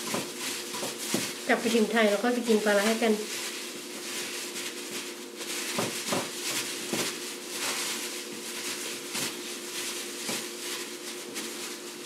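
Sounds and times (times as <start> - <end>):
plastic glove rustling: 0.0 - 12.0.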